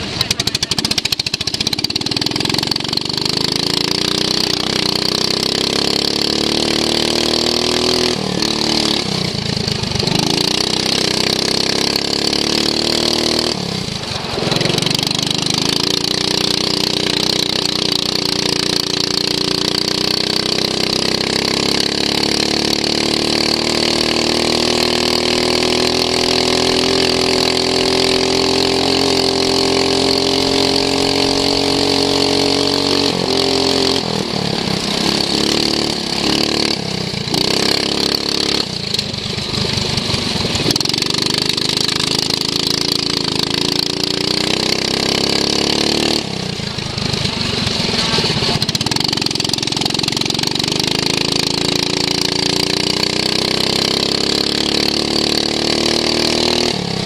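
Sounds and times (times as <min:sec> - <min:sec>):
lawn mower engine at full throttle: 0:00.0 - 0:57.0.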